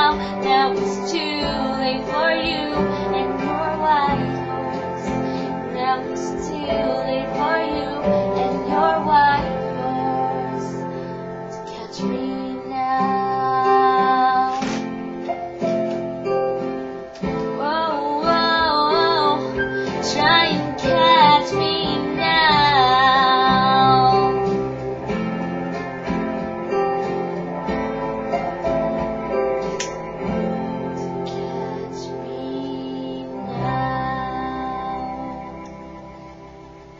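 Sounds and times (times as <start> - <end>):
girl singing a sad ballad: 0.0 - 15.4, 16.6 - 25.4, 30.1 - 36.6
plucked acoustic guitar: 0.0 - 36.9.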